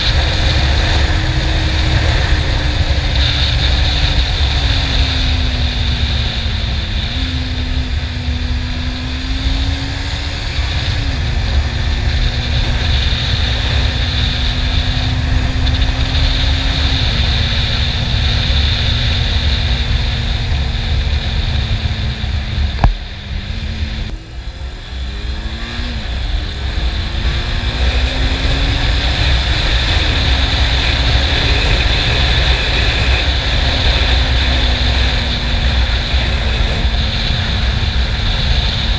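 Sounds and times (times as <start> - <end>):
motorcycle engine running: 0.0 - 38.9
wind buffeting: 0.0 - 38.9.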